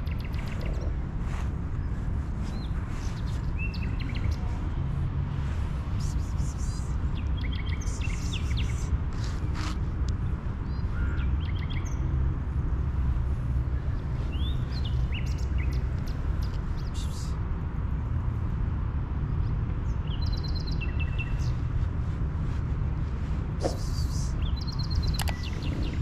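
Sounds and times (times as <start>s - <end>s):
small birds chirping: 0.0s - 17.4s, 19.4s - 21.9s, 23.6s - 26.0s
low outdoor rumble: 0.0s - 26.0s.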